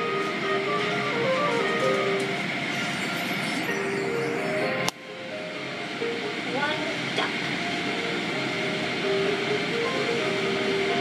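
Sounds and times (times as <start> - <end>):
music playing held notes: 0.0 - 11.0.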